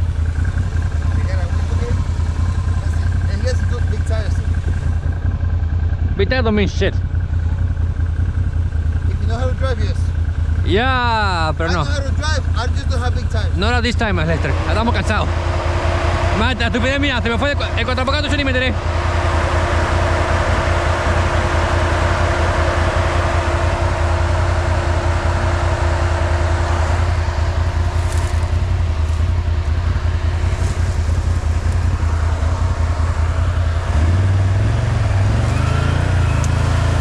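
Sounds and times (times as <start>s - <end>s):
atv engine rumbling and revving: 0.0s - 37.0s
steady whine: 0.0s - 37.0s.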